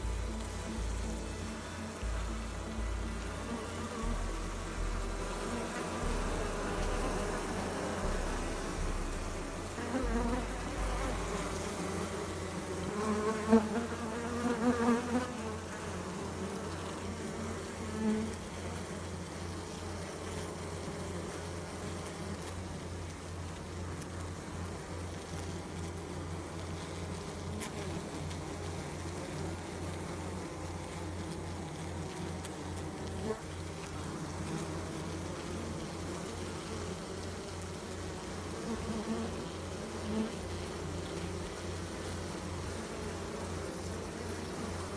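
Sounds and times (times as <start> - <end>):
bees buzzing: 0.0 - 22.9, 24.4 - 44.9.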